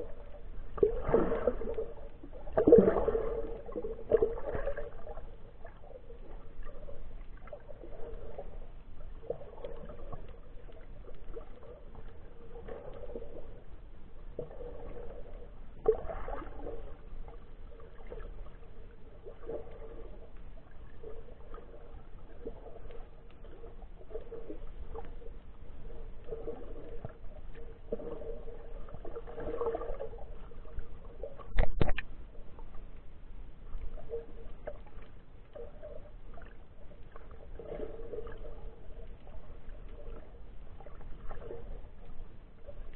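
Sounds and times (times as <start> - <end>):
faint steady hum: 0.0 - 42.9
muffled underwater sea wash: 0.0 - 42.9.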